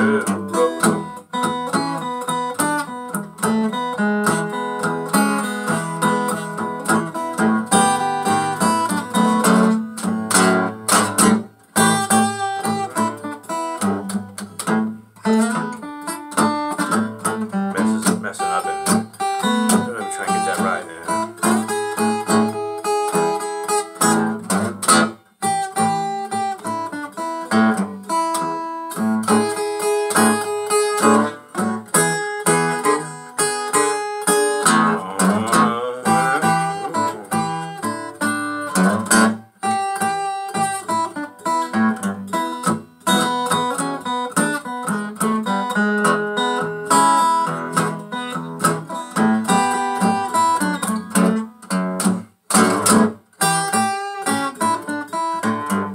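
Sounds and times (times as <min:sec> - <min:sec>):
acoustic guitar blues: 0:00.0 - 0:55.9.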